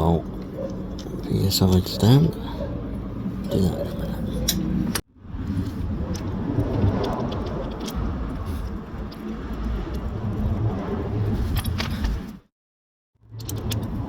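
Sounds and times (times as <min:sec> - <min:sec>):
steady low rumble: 0:00.0 - 0:12.4.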